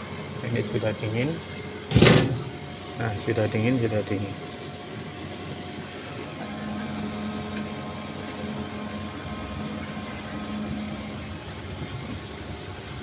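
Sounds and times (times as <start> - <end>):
fridge compressor humming: 0.0 - 13.0.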